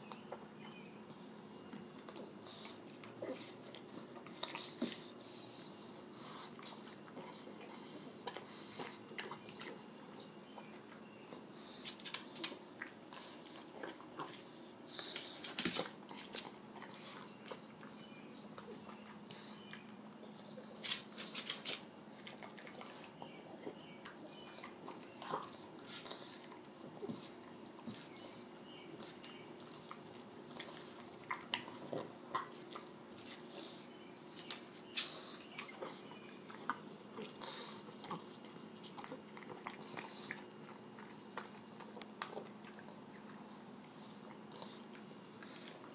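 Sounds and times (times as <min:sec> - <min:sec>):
dog chewing and crunching: 0:00.0 - 0:45.9.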